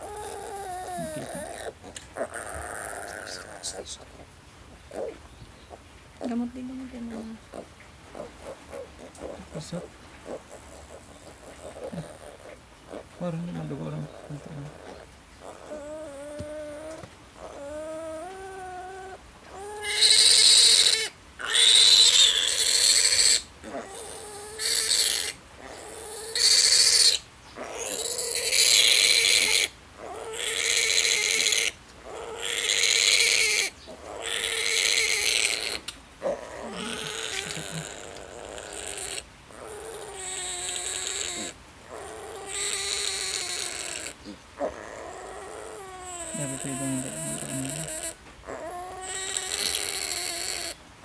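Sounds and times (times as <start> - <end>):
piglet squealing: 0.0 - 4.0, 4.9 - 5.2, 7.5 - 50.8.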